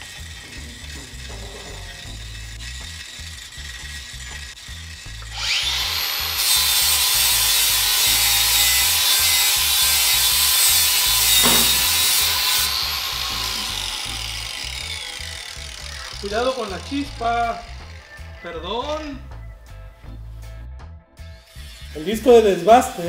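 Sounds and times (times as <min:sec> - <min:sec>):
grinder motor whine: 0:00.0 - 0:18.9
angle grinder grinding pipe: 0:00.0 - 0:19.4, 0:21.3 - 0:23.0.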